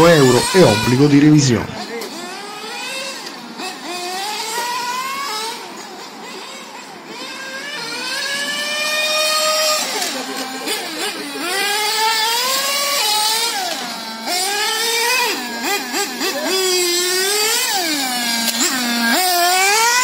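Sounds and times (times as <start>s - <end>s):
model car engine revving: 0.0s - 20.0s.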